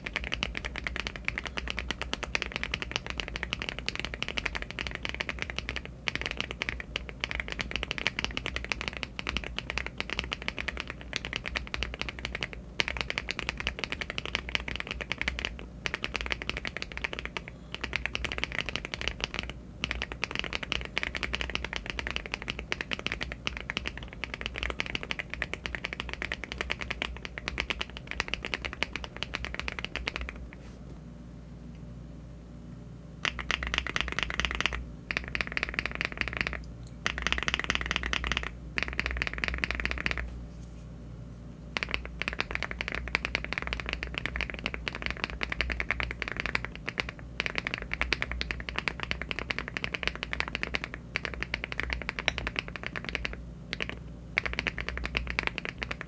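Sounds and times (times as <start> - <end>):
mechanical keyboard typing: 0.0 - 30.4, 33.2 - 40.2, 41.8 - 56.0.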